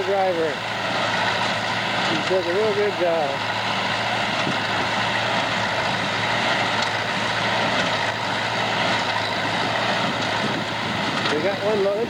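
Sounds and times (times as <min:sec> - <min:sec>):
hay baler clatter: 0:00.0 - 0:12.0
tractor engine running under load: 0:00.0 - 0:12.0.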